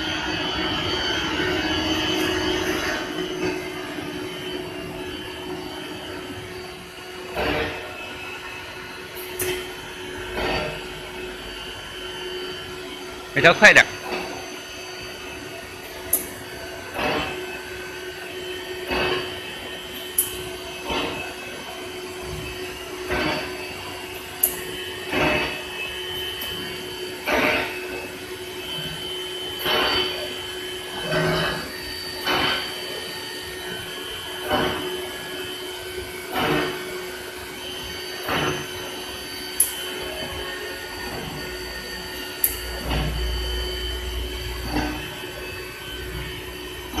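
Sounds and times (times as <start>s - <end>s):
cnc router humming: 0.0s - 47.0s.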